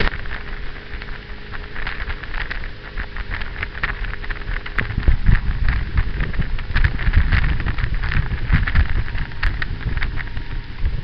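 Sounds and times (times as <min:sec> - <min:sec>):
crackly rushing noise: 0:00.0 - 0:11.0
faint steady hum: 0:00.0 - 0:11.0
wind buffeting microphone: 0:00.0 - 0:11.0.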